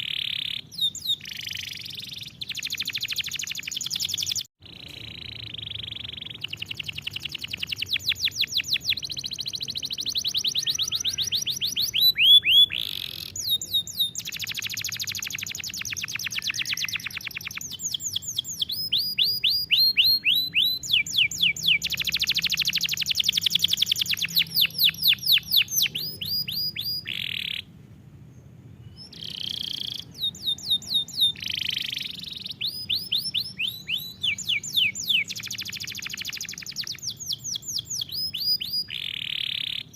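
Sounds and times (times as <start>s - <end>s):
canary singing trills: 0.0s - 27.7s, 28.8s - 39.9s.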